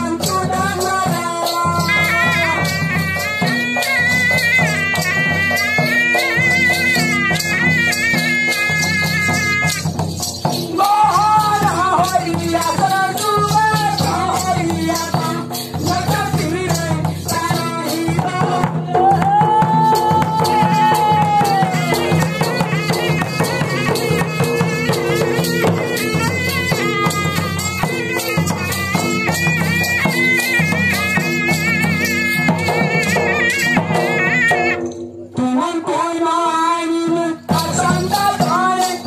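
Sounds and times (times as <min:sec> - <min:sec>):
barrel drum and percussion beating: 0:00.0 - 0:39.0.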